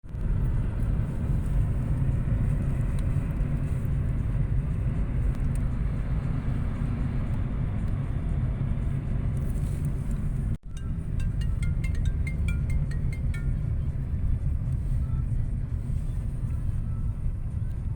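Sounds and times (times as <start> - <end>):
car engine and road noise: 0.0 - 17.9.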